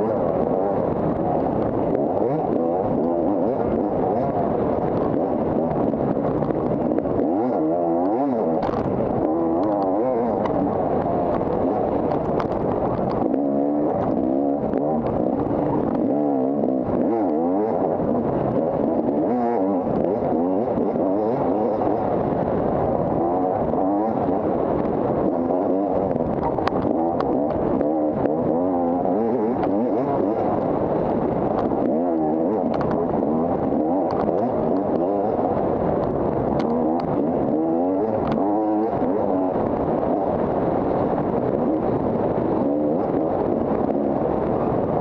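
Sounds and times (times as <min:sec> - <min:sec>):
dirt bike engine revving: 0:00.0 - 0:44.6.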